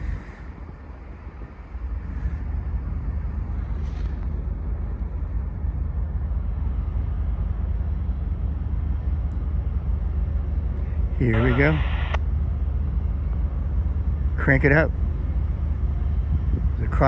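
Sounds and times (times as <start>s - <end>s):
diesel locomotives rumbling: 0.0s - 17.0s.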